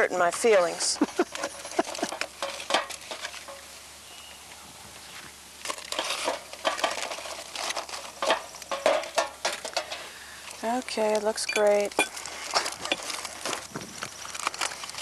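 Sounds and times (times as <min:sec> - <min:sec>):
aluminium foil crinkling: 0:00.0 - 0:03.7, 0:05.6 - 0:15.0.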